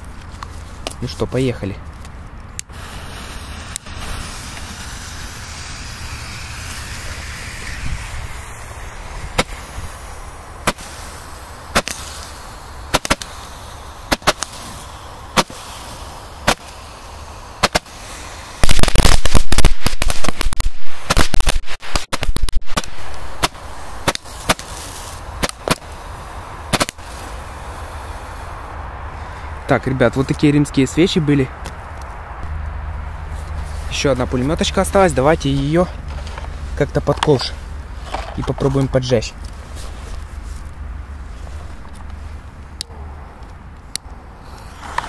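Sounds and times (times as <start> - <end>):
firework hissing: 2.6 - 29.8, 32.4 - 38.4, 39.4 - 45.0
roman candle shots: 2.6 - 45.0.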